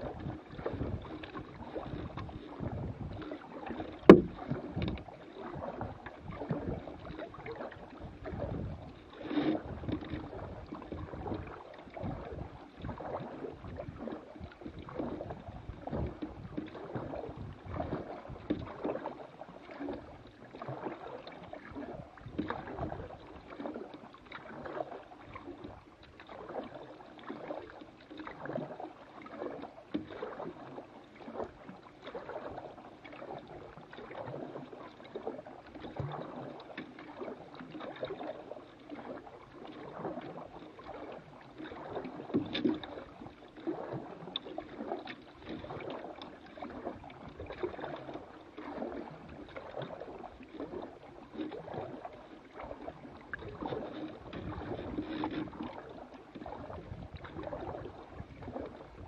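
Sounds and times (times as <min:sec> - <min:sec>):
paddle splashes: 0:00.0 - 0:59.0
water gurgling along boat hull: 0:00.0 - 0:59.0.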